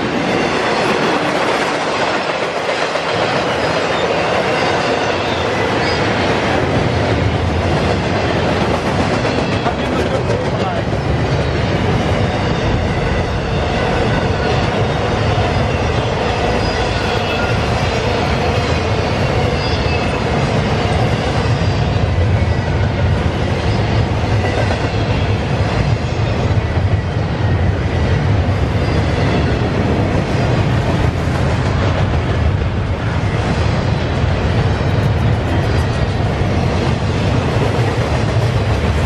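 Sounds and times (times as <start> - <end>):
train wheels on track: 0.0 - 39.0.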